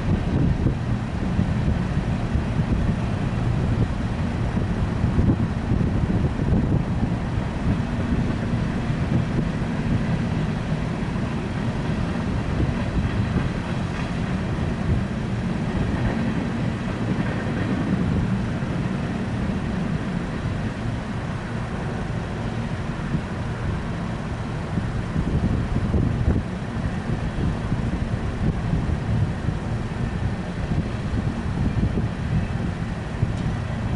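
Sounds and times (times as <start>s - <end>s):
train wheels rumbling on rail: 0.0s - 33.9s.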